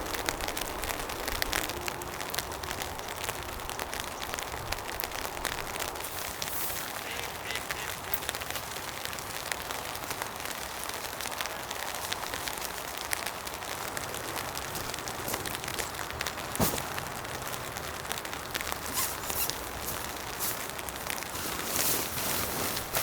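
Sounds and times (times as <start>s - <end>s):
raindrops tapping: 0.0s - 23.0s
steady rain hiss: 0.0s - 23.0s.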